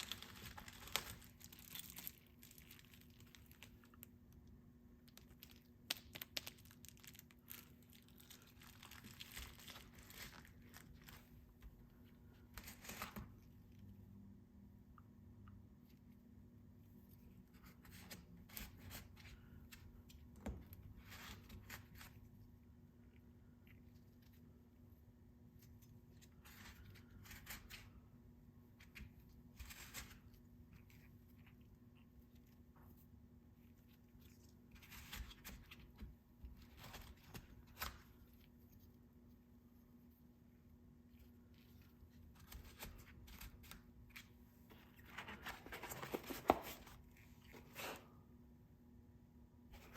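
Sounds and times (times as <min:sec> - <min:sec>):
rustling and handling noises: 0:00.0 - 0:14.1, 0:15.0 - 0:48.6, 0:49.6 - 0:49.9.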